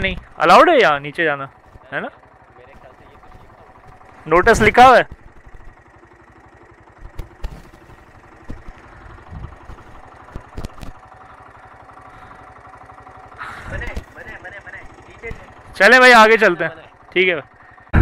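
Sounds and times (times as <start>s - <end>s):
faint engine running: 0.0s - 18.0s.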